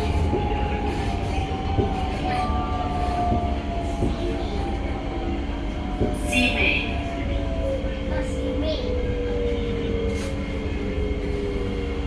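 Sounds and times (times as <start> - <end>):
train wheel rumble: 0.0 - 12.0.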